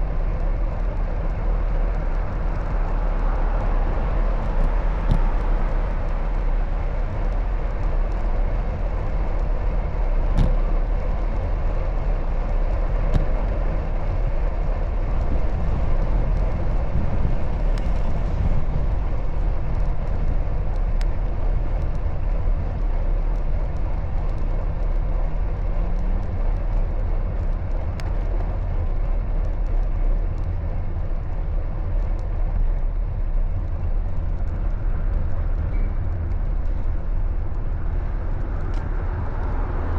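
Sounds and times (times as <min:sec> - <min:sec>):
traffic: 0:00.0 - 0:39.9
wind and road noise: 0:00.0 - 0:39.9.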